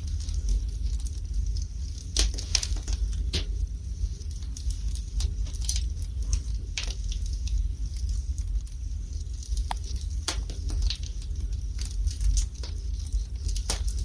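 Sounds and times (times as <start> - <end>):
low rumble of fire: 0.0 - 14.0
wood fire crackling and popping: 0.0 - 14.0.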